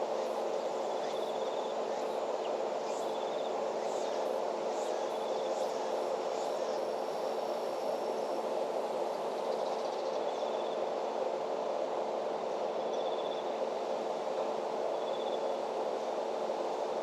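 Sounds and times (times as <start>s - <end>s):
insects chirping in fast trills: 0.0s - 17.0s.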